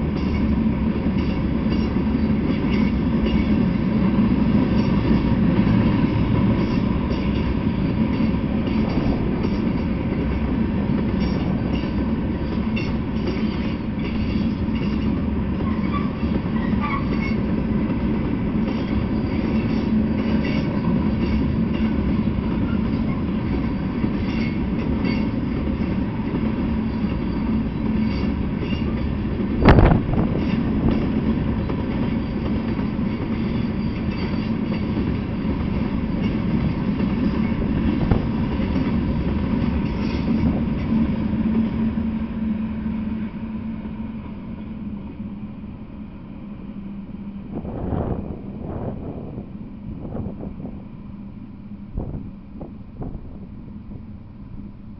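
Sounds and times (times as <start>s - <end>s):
freight train rolling past: 0.0s - 54.9s
steel wheels rumbling on rail: 0.0s - 54.9s.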